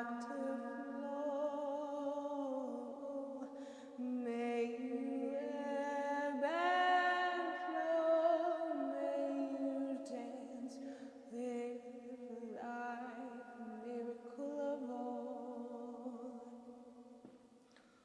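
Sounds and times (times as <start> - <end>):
lower voice singing held notes: 0.0 - 16.6.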